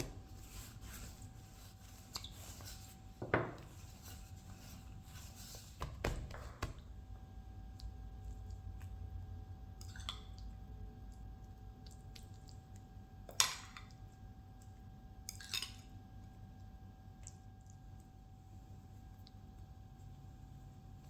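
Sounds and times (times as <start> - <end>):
steady low hum: 0.0 - 15.3, 15.9 - 21.0
hands squishing soft dough: 0.0 - 21.0.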